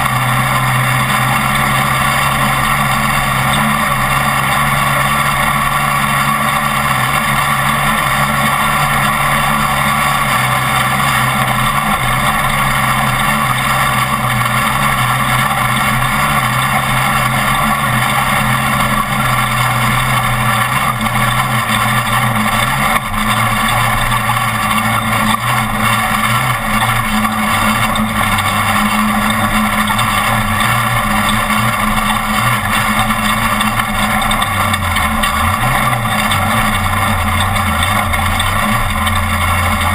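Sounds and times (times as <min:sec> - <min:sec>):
truck engine running hard: 0:00.0 - 0:39.9.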